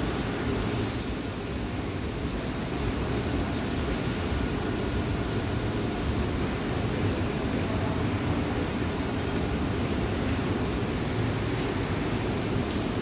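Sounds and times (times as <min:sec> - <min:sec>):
subway car equipment drone: 0:00.0 - 0:13.0.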